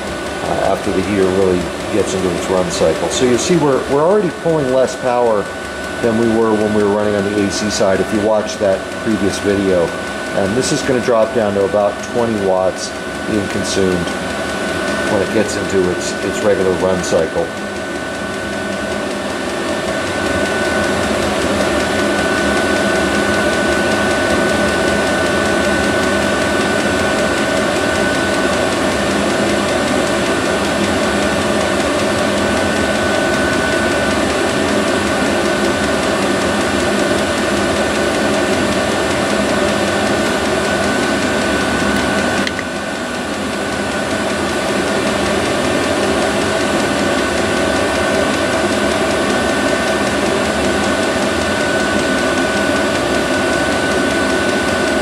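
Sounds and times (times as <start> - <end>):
air heater whirring hum: 0.0 - 55.0.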